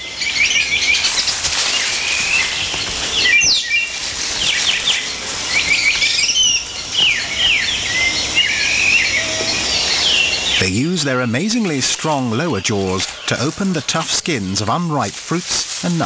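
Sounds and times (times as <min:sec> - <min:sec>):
high chirping calls: 0:00.0 - 0:16.0
steady high hiss: 0:00.0 - 0:16.0.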